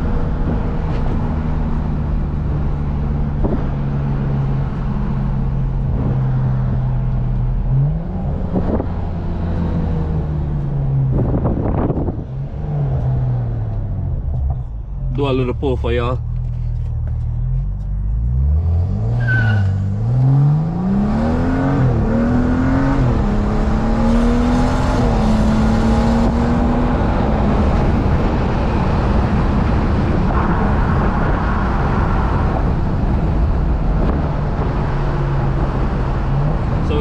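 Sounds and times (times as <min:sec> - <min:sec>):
car engine accelerating: 0:00.0 - 0:37.0
road noise: 0:00.0 - 0:37.0.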